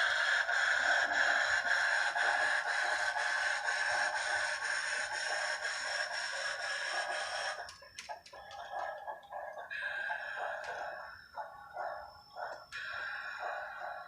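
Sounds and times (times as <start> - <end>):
model steam locomotive chuffing: 0.0 - 14.0.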